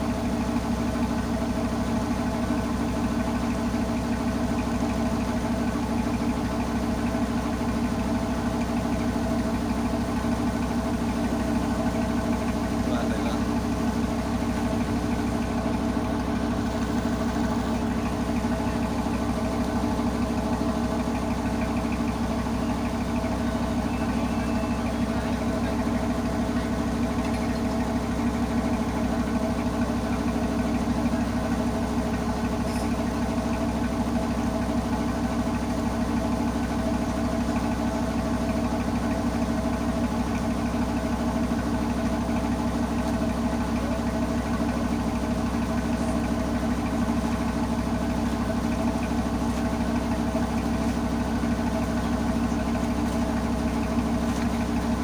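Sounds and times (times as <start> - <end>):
tugboat engine throbbing: 0.0 - 55.0.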